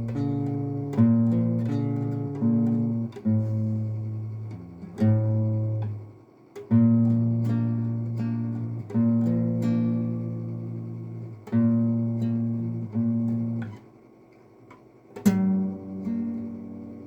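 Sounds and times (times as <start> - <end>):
acoustic guitar strumming chords: 0.0 - 13.9, 15.1 - 17.0.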